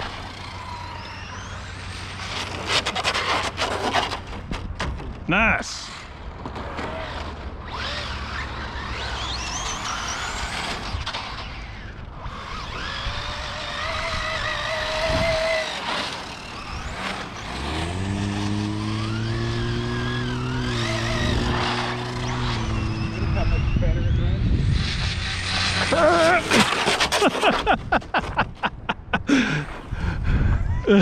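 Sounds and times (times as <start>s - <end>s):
rc car motors whining: 0.0s - 4.6s, 5.8s - 27.9s.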